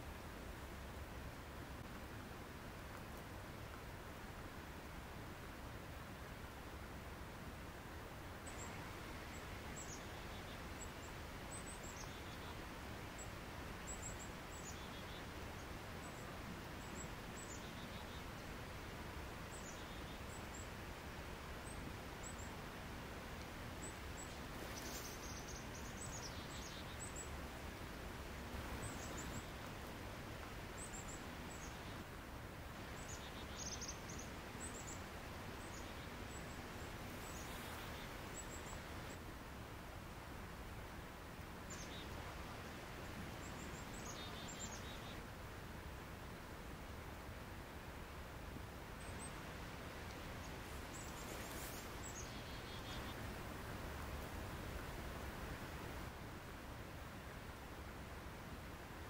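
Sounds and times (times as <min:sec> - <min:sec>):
faint hiss: 0:00.0 - 0:59.0.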